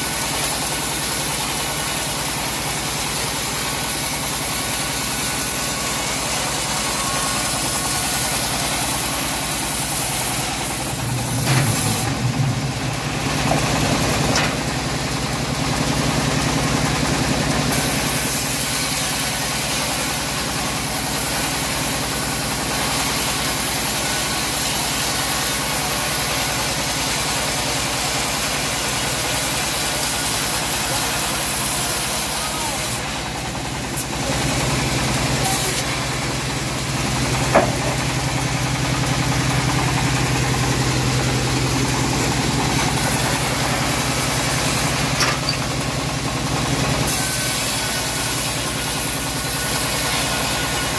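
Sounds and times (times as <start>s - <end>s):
band saw cutting wood: 0.0s - 50.9s.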